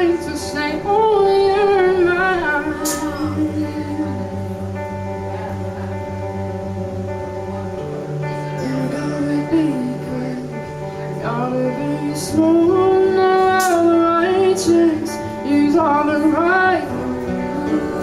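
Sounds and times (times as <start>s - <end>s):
woman singing: 0.0s - 6.5s, 8.3s - 18.0s
acoustic guitar: 0.0s - 18.0s.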